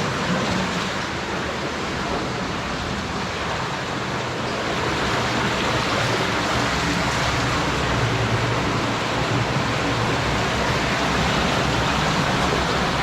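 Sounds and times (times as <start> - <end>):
water falling in a cave: 0.0 - 13.0.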